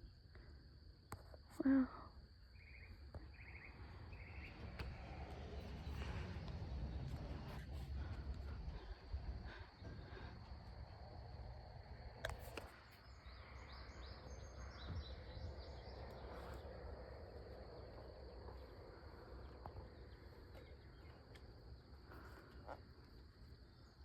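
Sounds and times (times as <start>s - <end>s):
low steady rumble: 2.2s - 24.0s.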